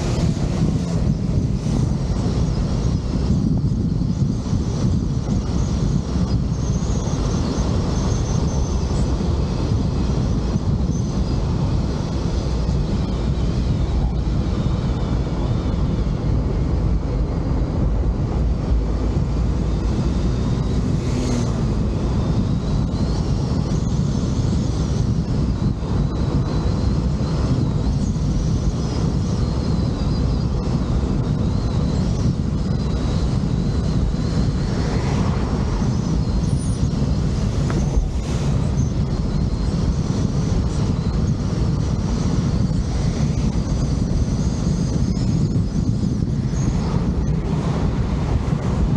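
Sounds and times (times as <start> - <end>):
vehicle road and engine noise: 0.0 - 48.9
wind on microphone: 0.0 - 48.9.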